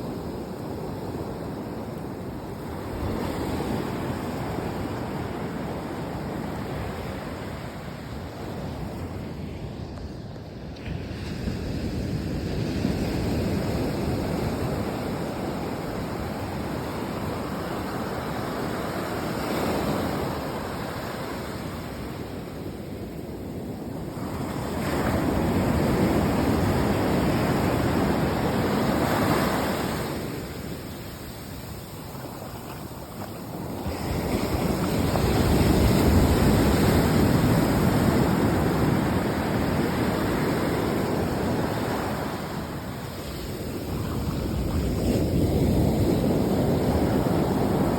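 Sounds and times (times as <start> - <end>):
sea waves washing in: 0.0 - 47.9.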